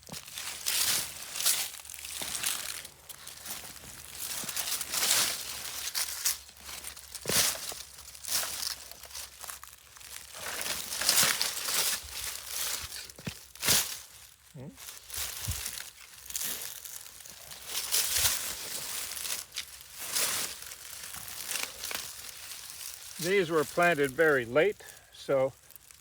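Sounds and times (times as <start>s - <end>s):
rustling of vines: 0.0s - 26.0s
soil crunching as tubers dug: 0.0s - 26.0s.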